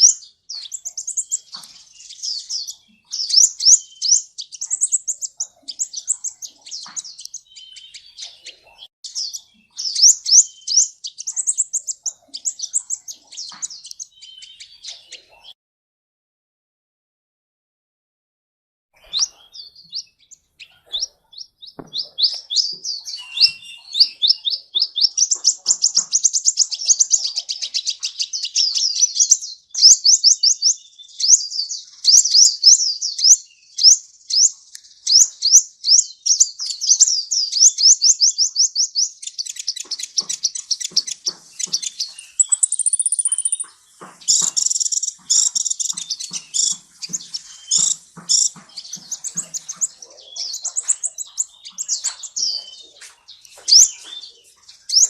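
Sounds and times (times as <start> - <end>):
bird chattering with sharp clicks: 0.0 - 15.3, 21.8 - 55.0
sunbird singing high chirps: 0.0 - 15.6, 19.0 - 55.0.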